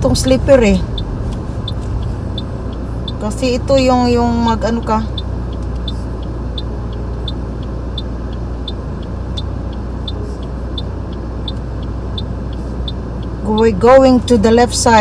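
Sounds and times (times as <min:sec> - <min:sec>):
car tyre rumble on snow: 0:00.0 - 0:15.0
turn signal ticking: 0:00.0 - 0:15.0.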